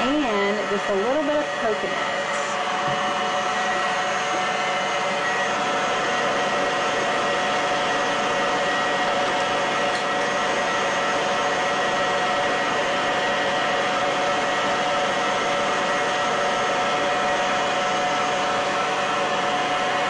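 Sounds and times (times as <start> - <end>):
stand mixer whirring: 0.0 - 20.0.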